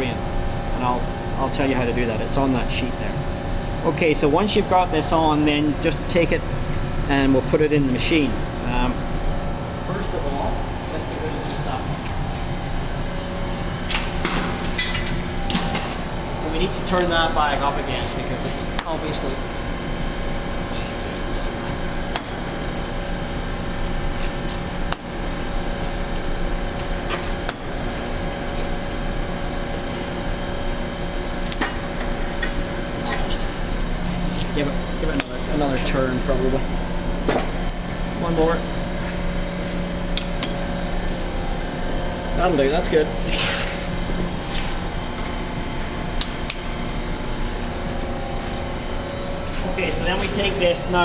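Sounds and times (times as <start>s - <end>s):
machine hum: 0.0s - 51.0s.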